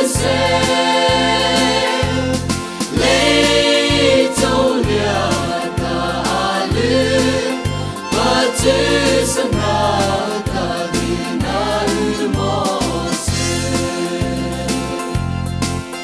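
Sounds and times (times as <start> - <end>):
group singing gospel song: 0.0 - 15.3.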